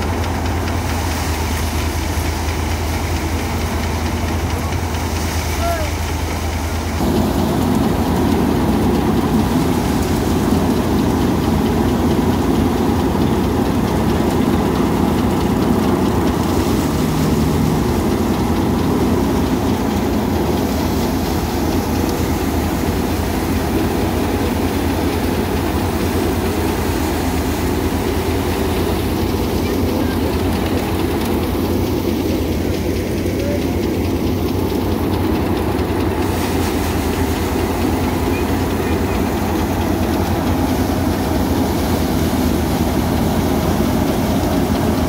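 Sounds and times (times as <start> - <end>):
threshing machine engine drone: 0.0 - 45.0
threshing machine rattle: 0.0 - 45.0.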